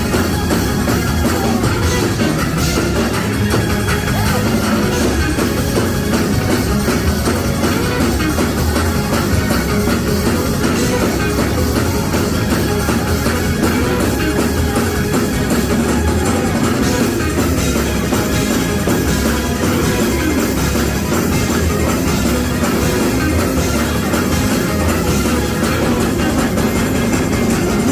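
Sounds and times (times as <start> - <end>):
church band playing music: 0.0 - 27.9.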